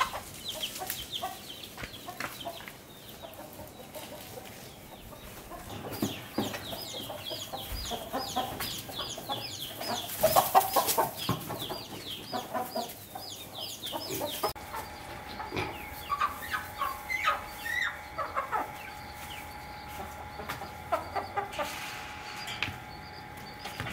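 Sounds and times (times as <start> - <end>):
chickens clucking: 0.0 - 23.9.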